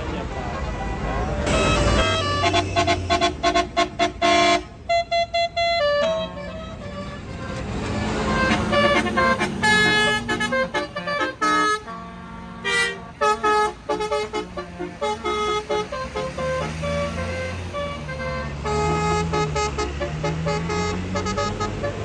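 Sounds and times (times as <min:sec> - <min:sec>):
bus engine running: 0:00.0 - 0:22.0
bus horn playing tune: 0:00.0 - 0:22.0.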